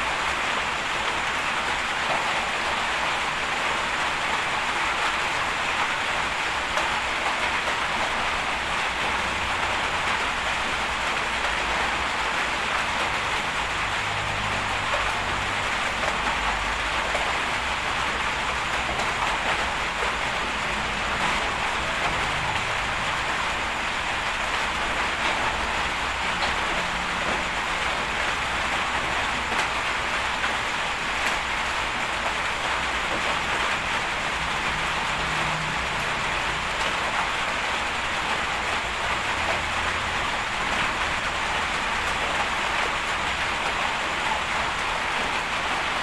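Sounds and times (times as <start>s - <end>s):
continuous hiss: 0.0s - 46.0s.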